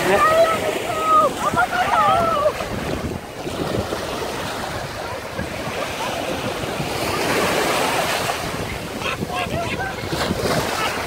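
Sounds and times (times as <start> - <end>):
small waves washing up shore: 0.0 - 11.0
wind rumble on microphone: 0.0 - 11.0.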